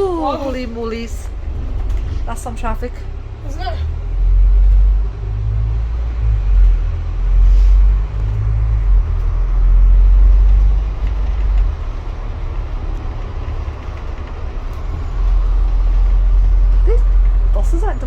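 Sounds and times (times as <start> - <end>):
bus engine rumble from inside: 0.0 - 18.0.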